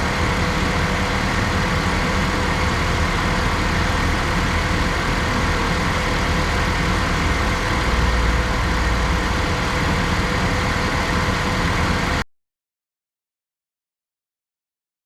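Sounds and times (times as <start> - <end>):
truck engine idling: 0.0 - 12.2.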